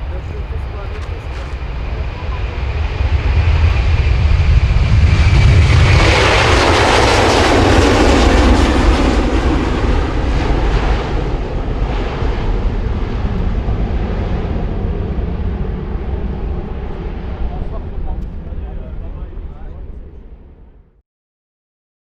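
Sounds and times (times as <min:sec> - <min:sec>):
jet airliner engines passing: 0:00.0 - 0:20.9.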